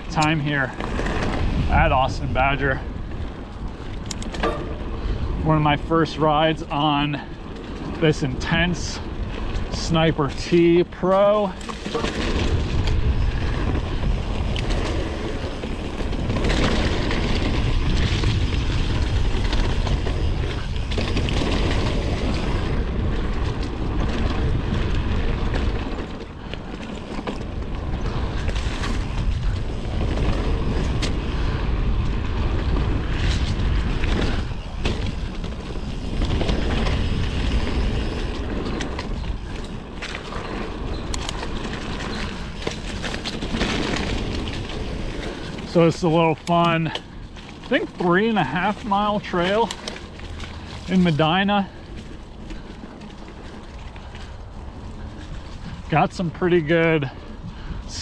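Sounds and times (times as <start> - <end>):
bike clicks and rattles: 0.0 - 58.0
bike tyres rolling: 0.0 - 58.0
wind rumbling over microphone: 0.0 - 58.0.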